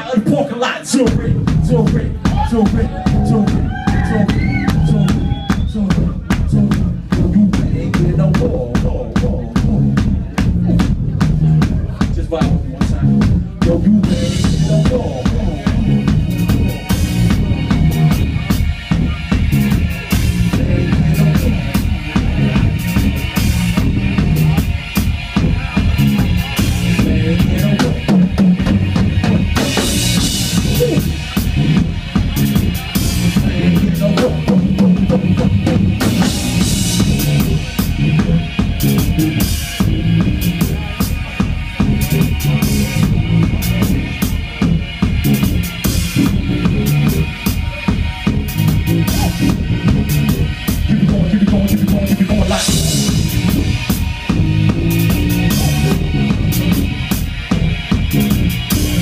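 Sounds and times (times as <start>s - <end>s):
electric bass: 0.0s - 59.0s
hip-hop band instrumental groove: 0.0s - 59.0s
drum kit: 1.0s - 59.0s.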